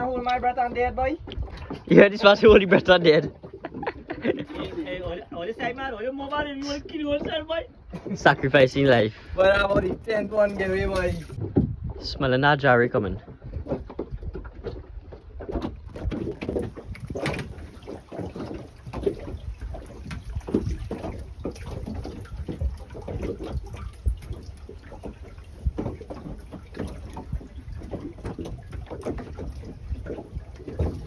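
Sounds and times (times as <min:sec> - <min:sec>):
water slapping against boat hull: 0:00.0 - 0:31.0.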